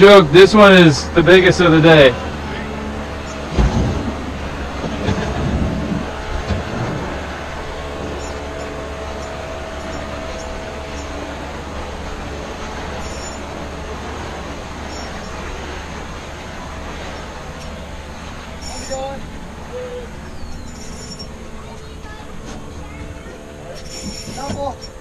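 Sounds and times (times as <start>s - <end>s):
boat motor rumble: 0.0s - 25.0s
held whine: 0.0s - 25.0s.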